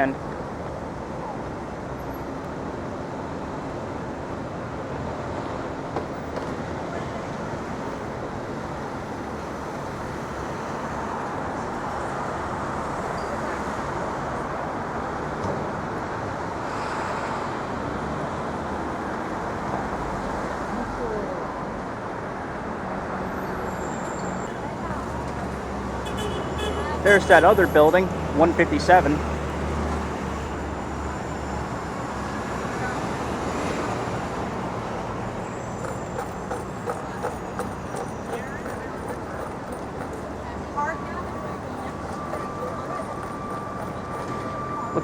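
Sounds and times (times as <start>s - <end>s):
city street traffic: 0.0s - 45.0s.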